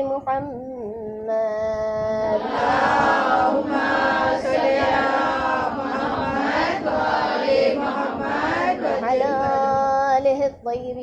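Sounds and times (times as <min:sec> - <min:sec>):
person chanting religious recitation: 0:00.0 - 0:11.0.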